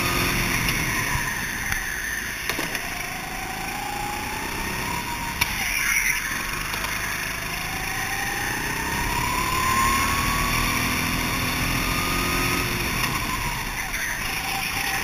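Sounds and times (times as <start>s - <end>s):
go-kart engine accelerating: 0.0s - 15.0s.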